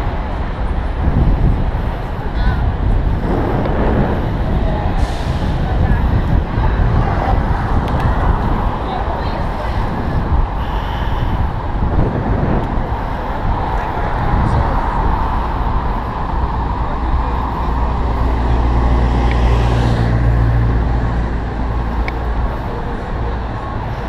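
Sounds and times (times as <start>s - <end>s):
city street traffic: 0.0s - 24.0s
rush of wind noise on microphone: 0.0s - 24.0s
vehicle engine low rumble: 0.0s - 24.0s.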